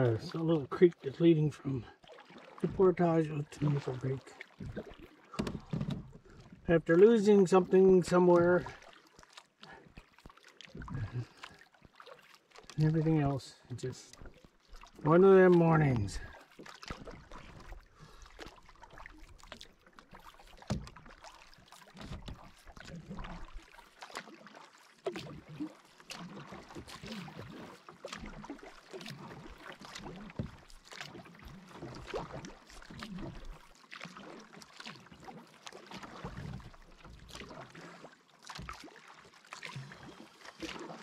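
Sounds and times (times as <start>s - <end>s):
paddle swishing through water: 0.0s - 41.0s.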